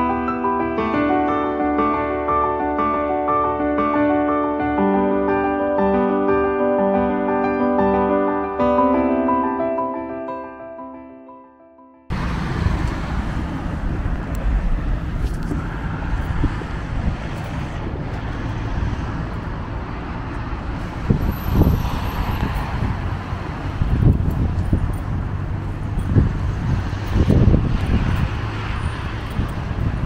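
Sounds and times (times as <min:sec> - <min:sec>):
street traffic noise: 0:00.0 - 0:09.5, 0:12.1 - 0:30.0.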